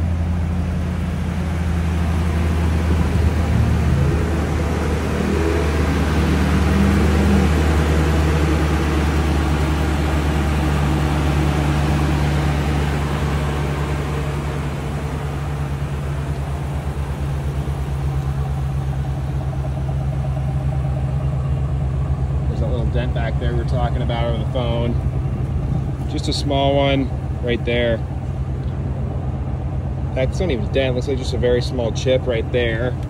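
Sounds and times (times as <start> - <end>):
pickup truck engine idling: 0.0 - 33.0.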